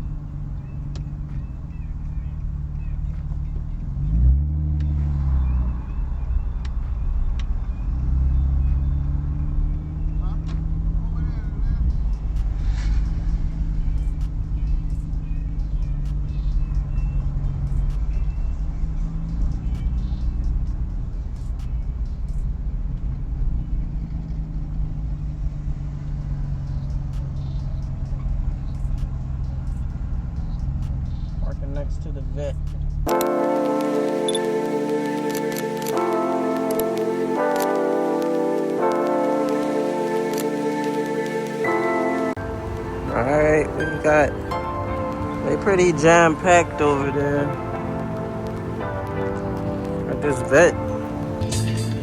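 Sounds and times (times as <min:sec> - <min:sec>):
car engine accelerating: 0:00.0 - 0:52.0
road noise: 0:00.0 - 0:52.0.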